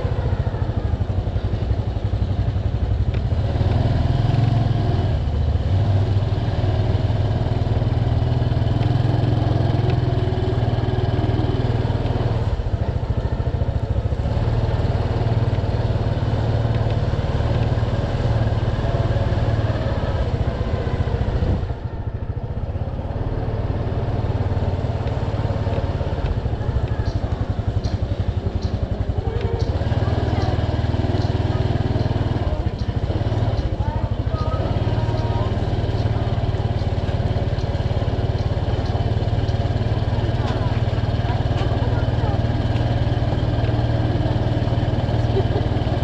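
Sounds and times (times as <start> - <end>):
motorbike engine running: 0.0 - 46.0
road and wind noise: 0.0 - 46.0.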